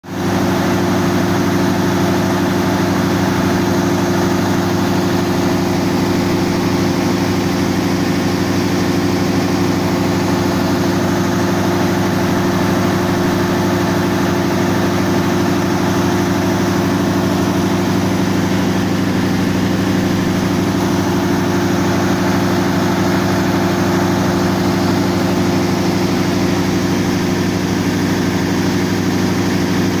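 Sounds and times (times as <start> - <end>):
diesel generators humming: 0.1 - 30.0.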